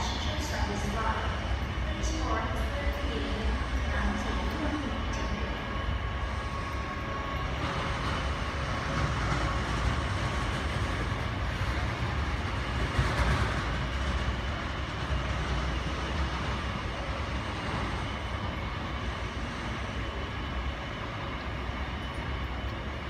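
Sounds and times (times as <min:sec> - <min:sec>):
ground service vehicles running: 0:00.0 - 0:23.0
jet engines rumbling: 0:00.0 - 0:23.0.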